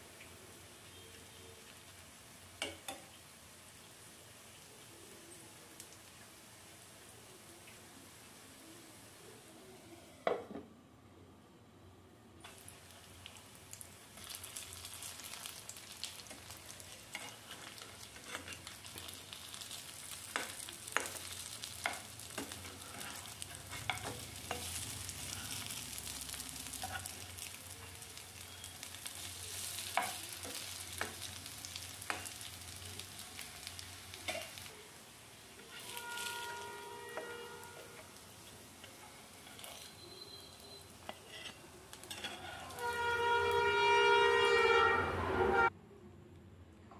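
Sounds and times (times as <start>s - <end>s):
fritters sizzling in hot oil: 0.0s - 9.8s, 12.4s - 44.0s.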